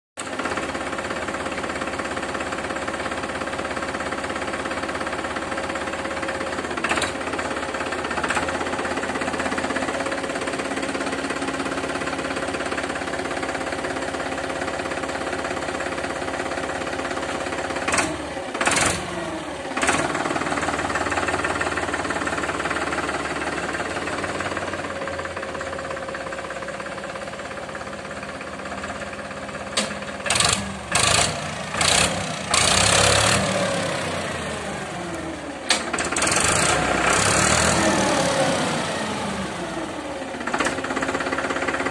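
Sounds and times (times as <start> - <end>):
tractor diesel engine idling: 0.2 - 41.9.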